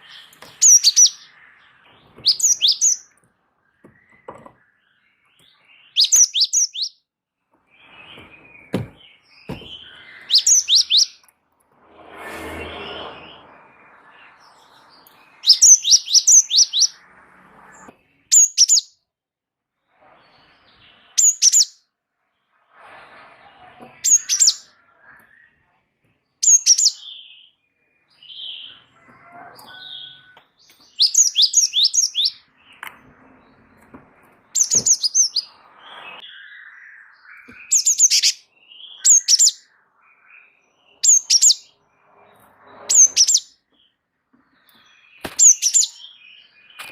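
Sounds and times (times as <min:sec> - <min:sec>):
bird song bursts: 0:00.0 - 0:11.3, 0:11.9 - 0:19.1, 0:19.9 - 0:22.7, 0:23.5 - 0:46.9.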